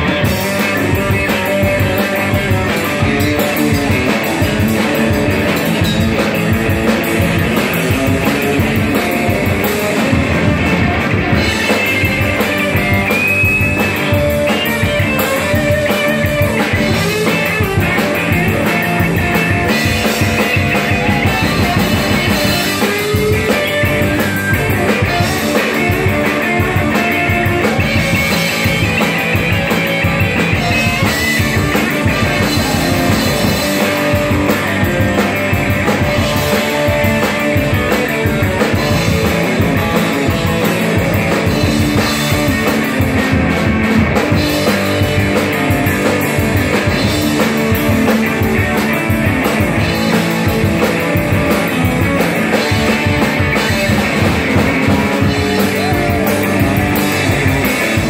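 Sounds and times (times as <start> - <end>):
drum kit beat: 0.0 - 58.0
electric guitar lead lines: 0.0 - 58.0.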